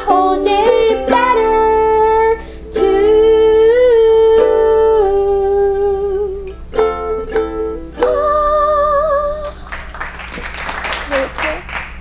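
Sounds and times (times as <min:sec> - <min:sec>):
ukulele strummed chords: 0:00.0 - 0:09.7.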